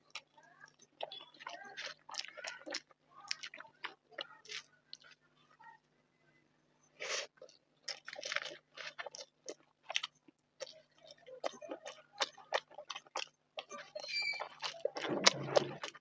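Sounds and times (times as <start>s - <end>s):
person chewing food: 0.0s - 5.3s, 6.9s - 16.0s.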